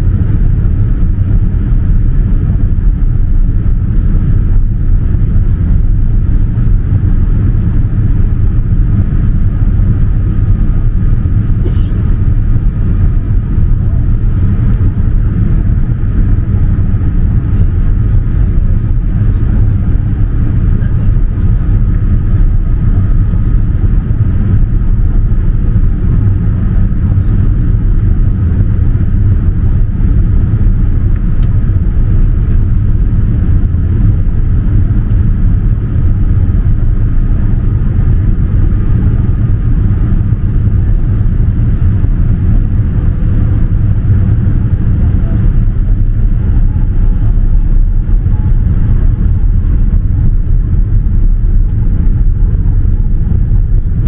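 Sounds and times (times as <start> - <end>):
airflow and engine rumble: 0.0 - 54.0.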